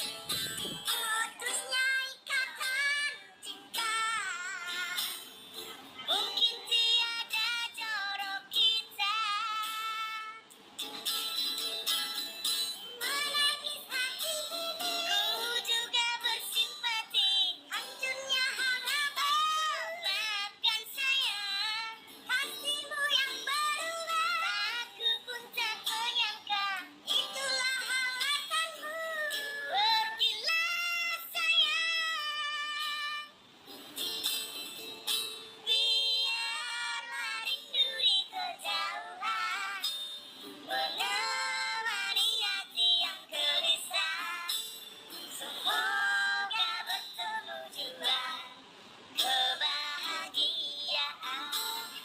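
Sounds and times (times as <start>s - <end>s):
high-pitched singing voice: 0.0s - 10.6s, 11.4s - 33.4s, 35.1s - 52.0s
music: 0.0s - 52.0s.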